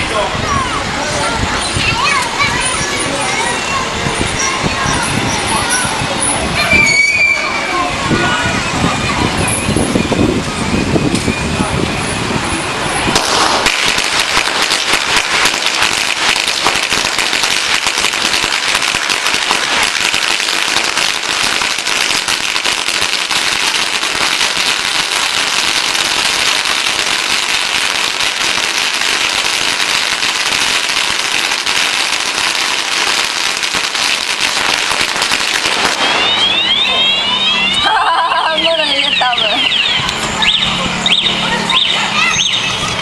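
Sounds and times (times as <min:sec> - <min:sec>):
firecrackers crackling: 0:00.0 - 0:43.0.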